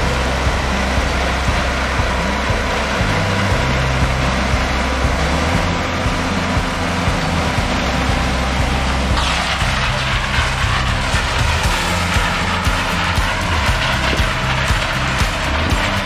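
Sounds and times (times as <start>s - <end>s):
dense mechanical noise: 0.0s - 16.0s
low engine drone: 0.0s - 16.0s.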